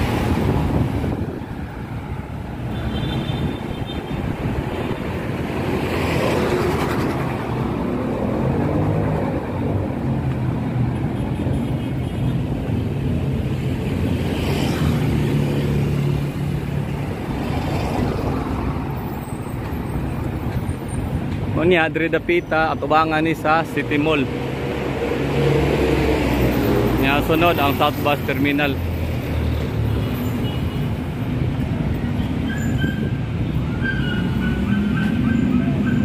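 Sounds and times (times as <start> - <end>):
vehicles driving along road: 0.0 - 36.0.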